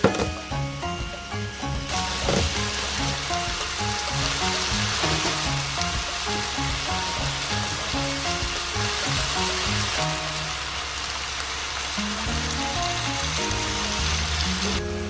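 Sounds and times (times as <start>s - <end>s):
plucked background music: 0.0s - 11.0s, 11.9s - 15.0s
food sizzling in a frying pan: 0.0s - 15.0s.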